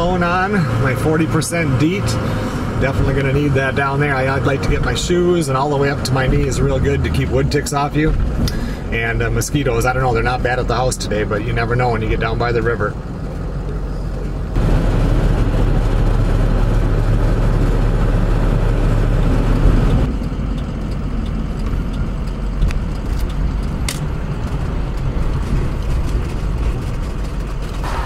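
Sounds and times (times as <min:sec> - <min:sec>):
road noise: 0:00.0 - 0:28.0
vehicle engine from inside cabin: 0:00.0 - 0:28.0.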